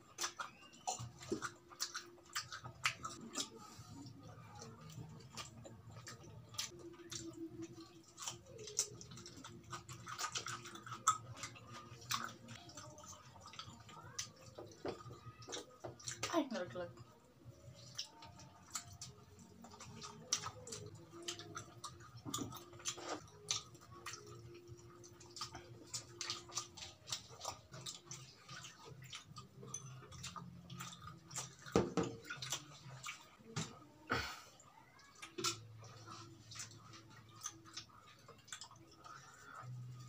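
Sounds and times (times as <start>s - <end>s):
chewing and lip-smacking: 0.0s - 40.0s.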